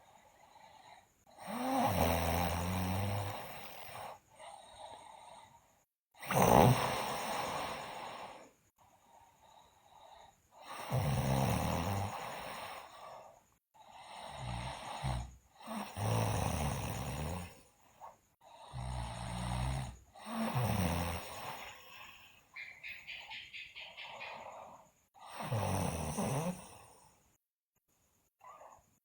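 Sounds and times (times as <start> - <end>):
quiet breaths: 0.0 - 29.0
girl snoring loudly: 0.2 - 8.5, 9.8 - 22.4, 24.3 - 27.2, 28.4 - 28.8.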